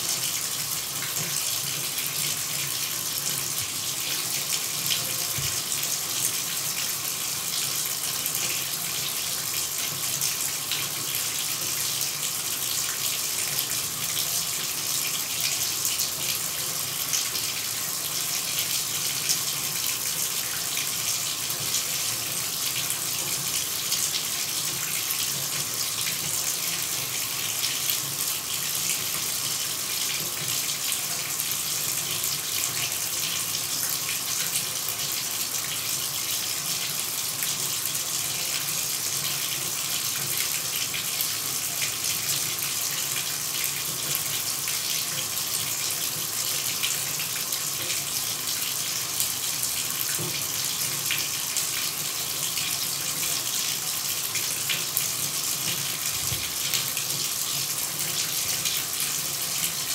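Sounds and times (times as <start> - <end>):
shower running: 0.0 - 59.9.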